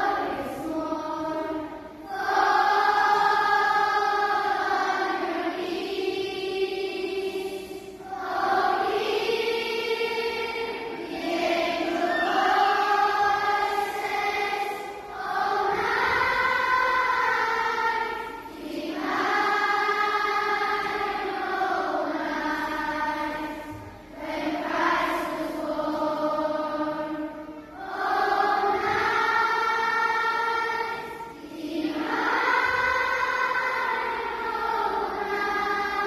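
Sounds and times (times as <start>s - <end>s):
choir singing a slow song: 0.0s - 36.0s.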